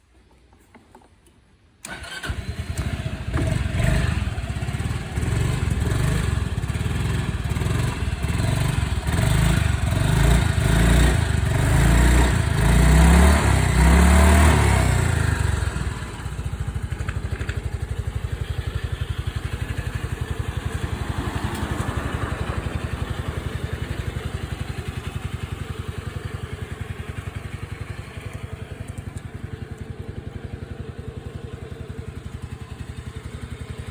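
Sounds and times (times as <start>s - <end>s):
scooter engine starting and idling: 1.8s - 33.9s.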